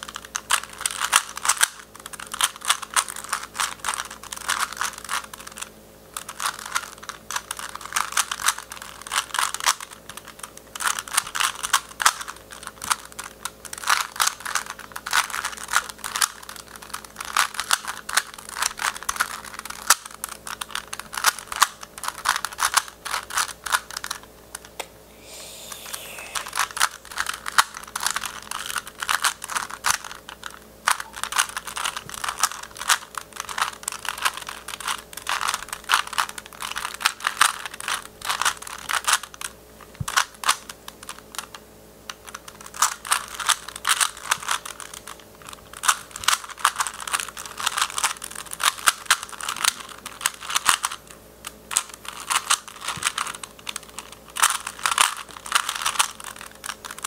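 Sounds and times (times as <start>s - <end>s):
puzzle cube clicking as turned: 0.0s - 24.8s, 25.9s - 39.5s, 40.1s - 41.6s, 42.2s - 51.0s, 51.7s - 57.0s.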